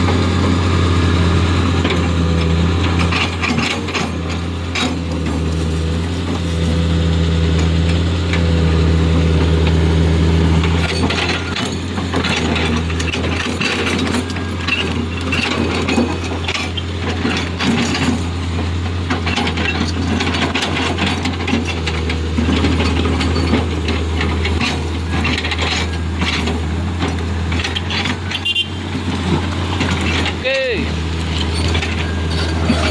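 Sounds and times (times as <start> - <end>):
diesel engine running: 0.0 - 32.9
metal and stones clanking: 1.8 - 6.8, 10.4 - 32.9.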